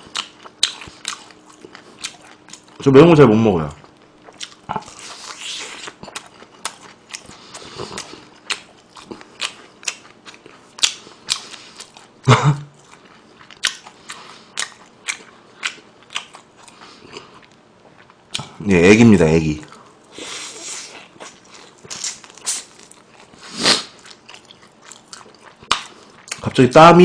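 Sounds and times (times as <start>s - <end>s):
chewing crunchy fried chicken: 0.0s - 18.7s, 19.6s - 26.9s.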